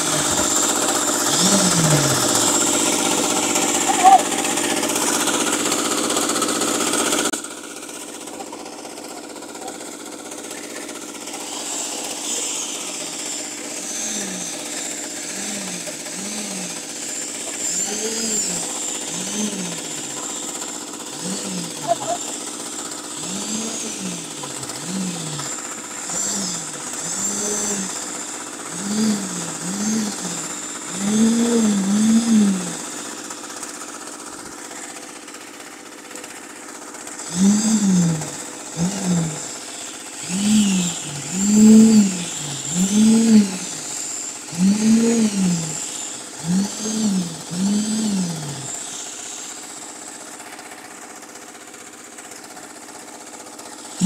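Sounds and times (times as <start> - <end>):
concrete vibrator motor running: 0.0 - 54.0.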